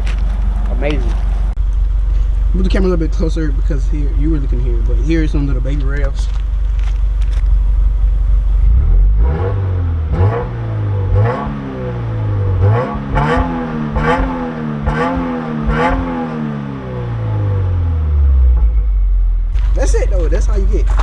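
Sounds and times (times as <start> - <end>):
car engine revving from idle: 0.0 - 18.6, 19.6 - 21.0.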